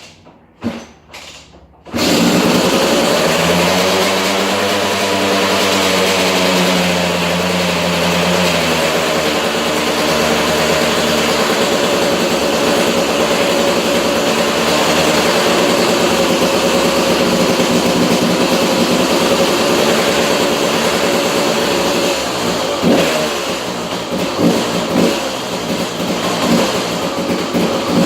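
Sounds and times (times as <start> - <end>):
two-stroke engine running and revving: 1.9 - 28.0.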